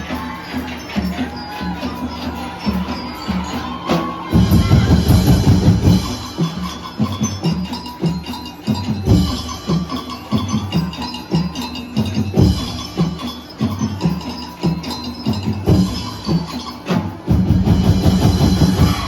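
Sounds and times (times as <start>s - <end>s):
bell-like melody: 0.0s - 19.0s
street-dance music: 0.0s - 19.0s.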